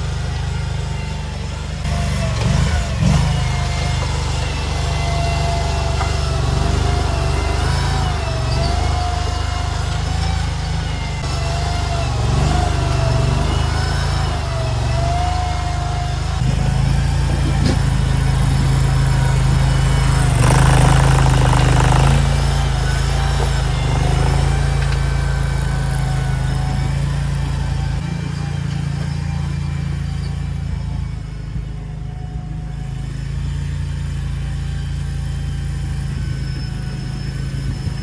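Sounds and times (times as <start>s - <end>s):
skid steer engine running: 0.0s - 38.0s.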